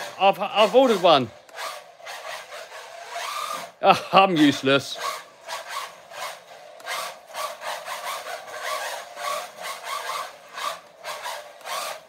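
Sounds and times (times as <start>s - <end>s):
rc car motor whine: 0.0s - 12.0s
tyres scrubbing on carpet: 0.0s - 12.0s.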